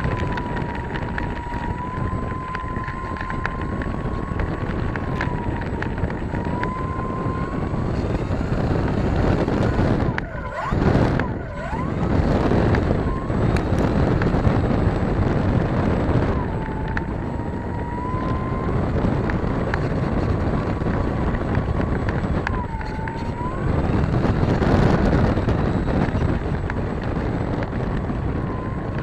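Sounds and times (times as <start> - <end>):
model plane electric motor whining: 0.0 - 29.0
wind noise on microphone: 0.0 - 29.0.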